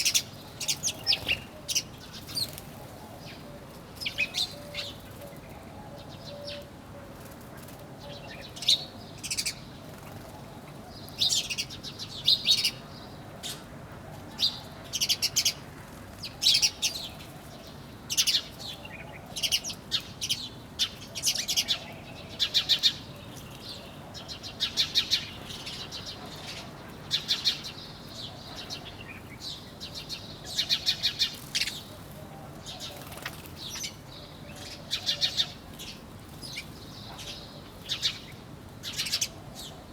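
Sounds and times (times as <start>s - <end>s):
small birds chirping: 0.0s - 13.6s, 14.5s - 39.9s.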